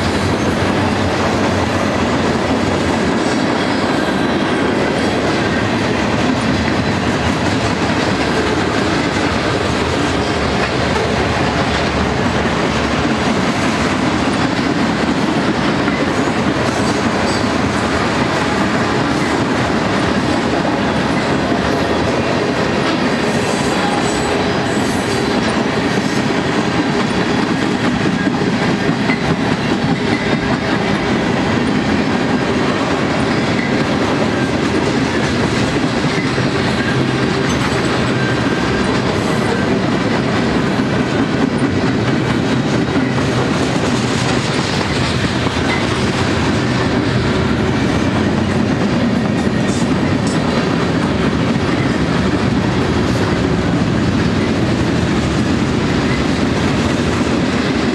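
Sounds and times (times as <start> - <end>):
train wheels rolling on rail: 0.0 - 57.9.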